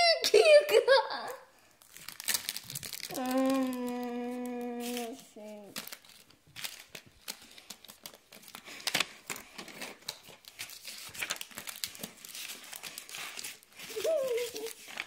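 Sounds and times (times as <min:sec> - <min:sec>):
paper crinkling while folded: 0:00.3 - 0:15.0.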